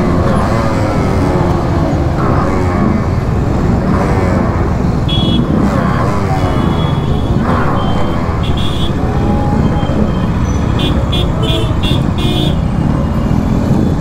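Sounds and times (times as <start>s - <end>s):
motorcycle engine revving: 0.0s - 14.0s
other motorcycles moving: 0.0s - 14.0s.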